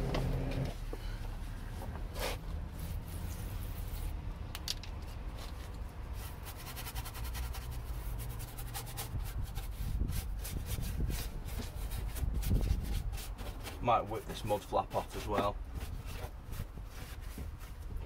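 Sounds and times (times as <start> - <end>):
stiff brush scrubbing: 2.1 - 4.2, 5.3 - 18.0.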